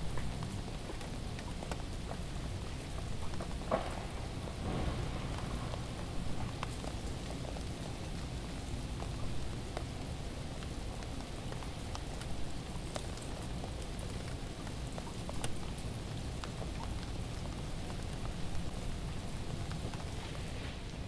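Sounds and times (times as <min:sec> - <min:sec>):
freezing rain falling: 0:00.0 - 0:21.0.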